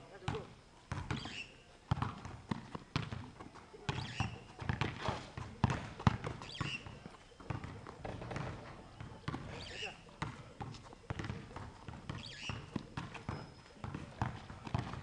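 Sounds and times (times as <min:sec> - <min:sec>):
basketball bouncing on hard court: 0:00.3 - 0:15.0.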